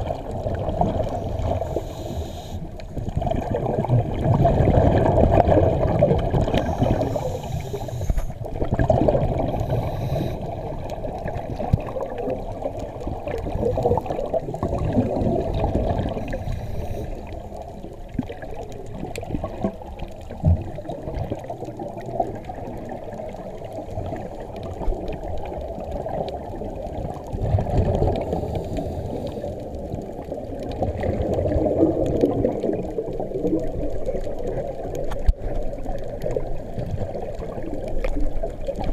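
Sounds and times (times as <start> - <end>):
underwater regulator bubbling: 0.0 - 38.9.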